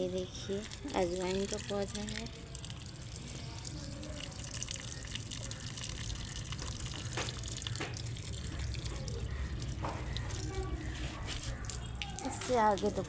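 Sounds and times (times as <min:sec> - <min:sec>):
water from hose splashing: 0:00.0 - 0:13.0.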